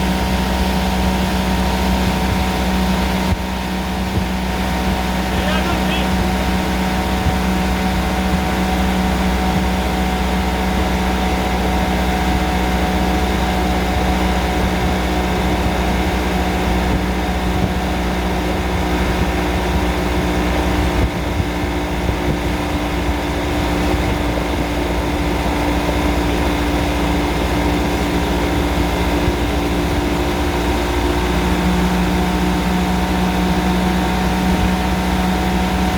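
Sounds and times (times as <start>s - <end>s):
outboard motor running: 0.0s - 35.9s.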